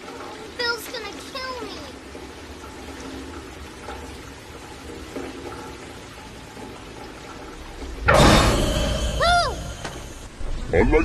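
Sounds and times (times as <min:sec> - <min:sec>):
water pouring into storm drain: 0:00.0 - 0:10.7
heavy rain: 0:00.0 - 0:11.0.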